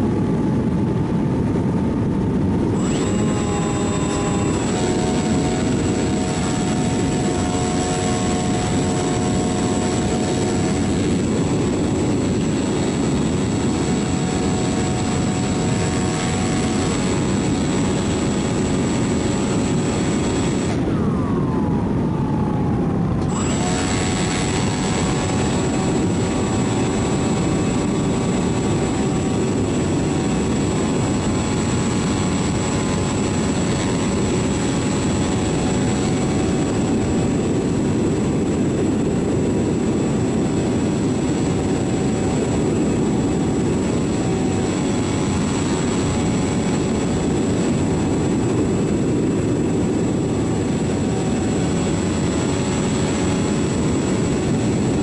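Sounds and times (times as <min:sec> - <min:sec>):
model airplane motor humming: 0:00.0 - 0:55.0
wind rushing over microphone: 0:00.0 - 0:55.0.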